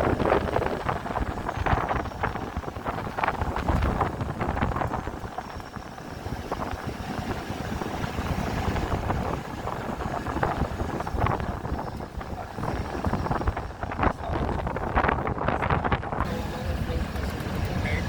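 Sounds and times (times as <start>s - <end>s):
vehicle rumbling: 0.0s - 18.0s
wind on microphone: 0.0s - 18.0s.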